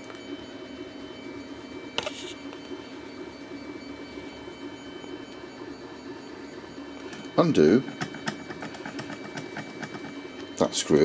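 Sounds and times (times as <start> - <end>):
low hum with high whine: 0.0 - 11.0.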